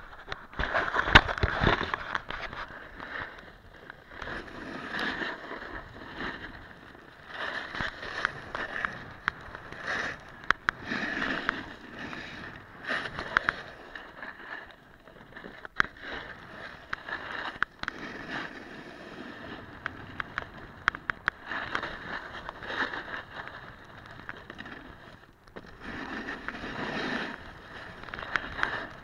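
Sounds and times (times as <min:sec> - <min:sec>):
snowboard scraping on snow: 0:00.6 - 0:29.0.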